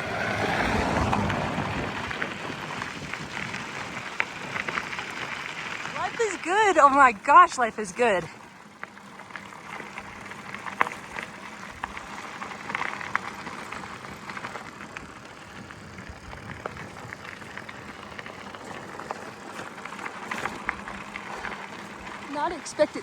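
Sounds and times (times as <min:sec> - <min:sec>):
bike tyres crunching on gravel: 0:00.0 - 0:23.0.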